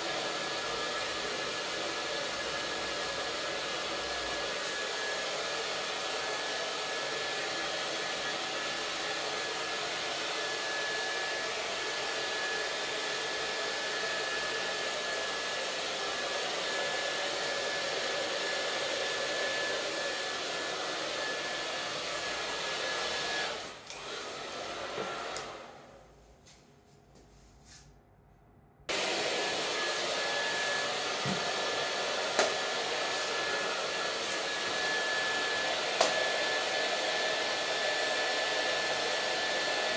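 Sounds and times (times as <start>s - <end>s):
hair dryer blowing: 0.0s - 26.1s, 28.9s - 39.9s.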